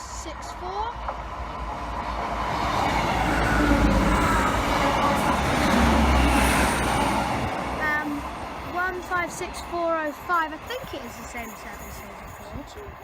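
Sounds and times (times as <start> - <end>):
diesel trains rumbling past: 0.0 - 13.0.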